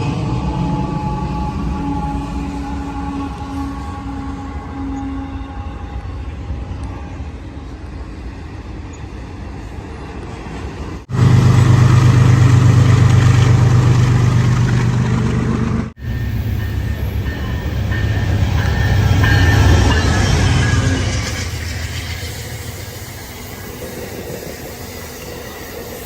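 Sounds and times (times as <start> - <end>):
deep drone of passing train: 0.0 - 26.0
train rumble: 0.0 - 26.0.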